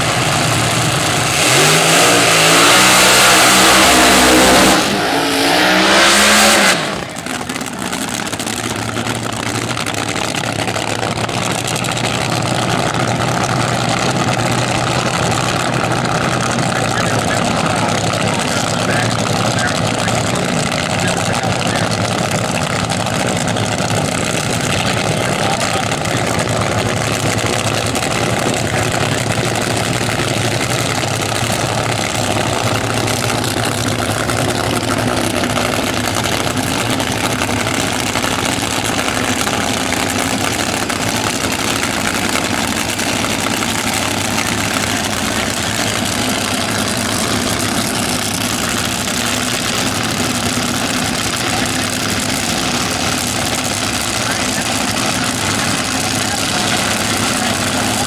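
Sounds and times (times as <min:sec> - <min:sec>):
drag car engines idling: 0:00.0 - 0:58.0.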